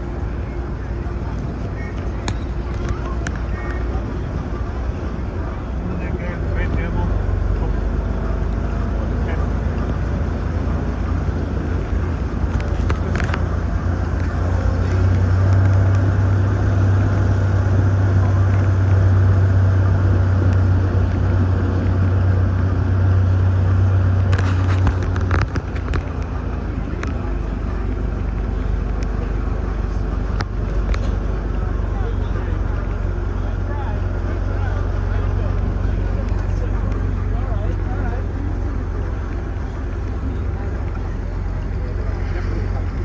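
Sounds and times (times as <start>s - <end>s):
motor vehicle running: 0.0s - 43.0s.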